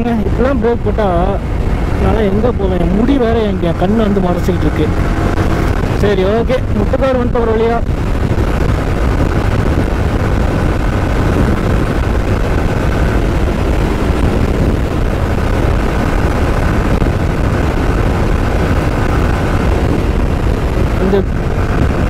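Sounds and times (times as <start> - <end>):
motorcycle engine drone: 0.0 - 22.0
wind rush on microphone: 0.0 - 22.0.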